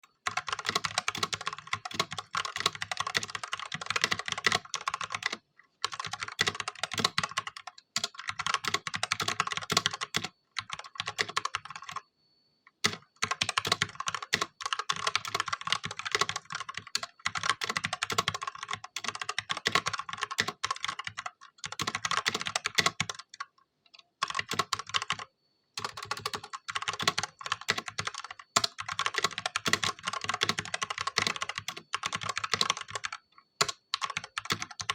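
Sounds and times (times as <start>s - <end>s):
mechanical keyboard typing: 0.2s - 12.0s, 12.8s - 34.9s.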